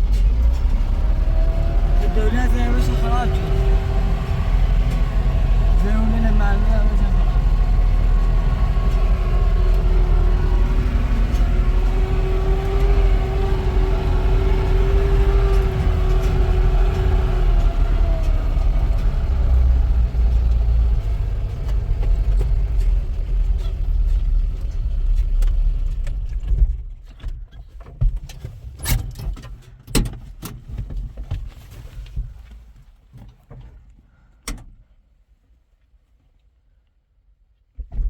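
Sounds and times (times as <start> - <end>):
vehicle engine and road rumble: 0.0 - 36.3.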